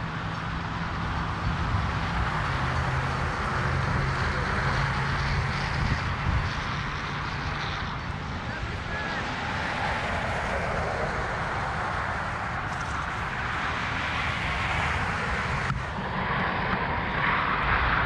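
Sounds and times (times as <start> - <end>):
low engine hum: 0.0 - 18.0
road traffic passing: 0.0 - 18.0.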